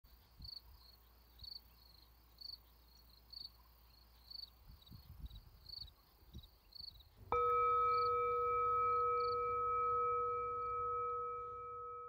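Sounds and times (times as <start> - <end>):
insect chirping: 0.1 - 12.0.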